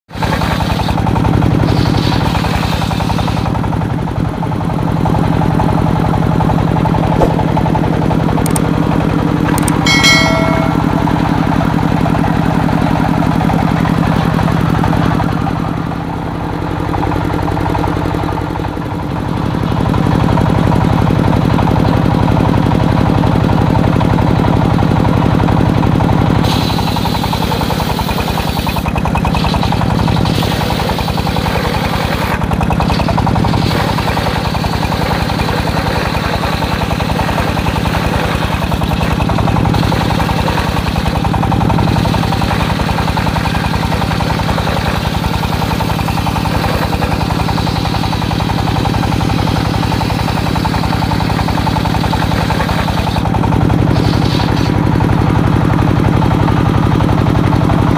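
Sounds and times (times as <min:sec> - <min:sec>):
diesel engine running: 0:00.1 - 0:57.9.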